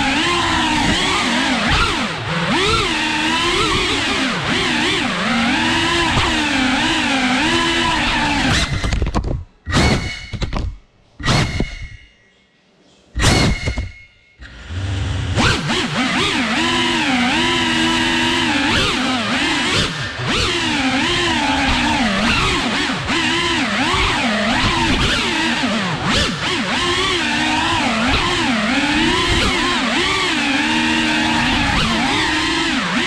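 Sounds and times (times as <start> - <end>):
quadcopter motors whining: 0.0 - 9.0, 13.3 - 33.0.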